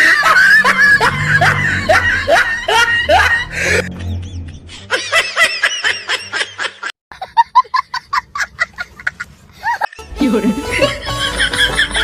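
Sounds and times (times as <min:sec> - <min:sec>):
hearty laughter: 0:00.0 - 0:10.0, 0:10.7 - 0:12.0.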